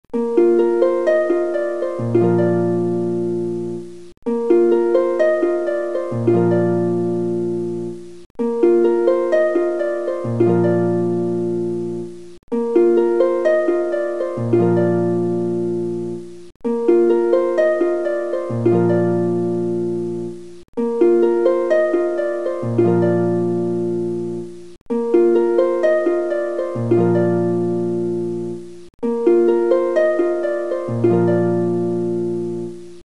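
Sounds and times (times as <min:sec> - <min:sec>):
plucked harp-like music: 0:00.1 - 0:33.0.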